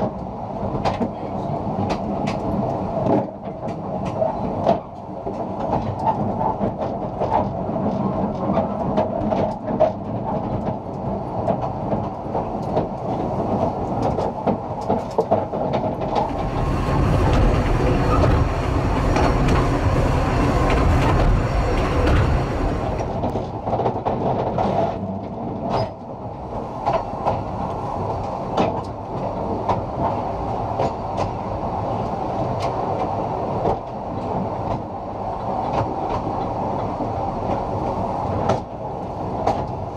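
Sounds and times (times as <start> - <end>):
train wheels rumbling on track: 0.0 - 39.9
wheels clicking over rail joints: 0.0 - 39.9.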